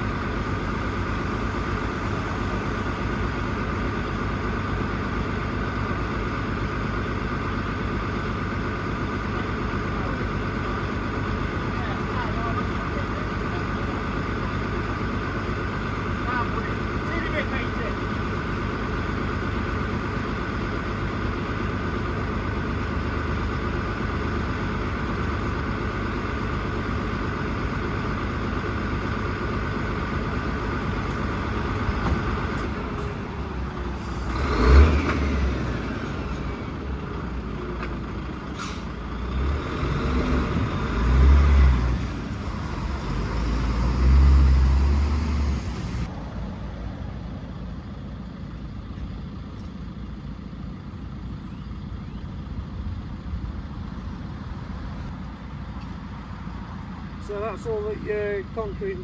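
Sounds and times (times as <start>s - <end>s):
diesel engine working: 0.0s - 59.0s.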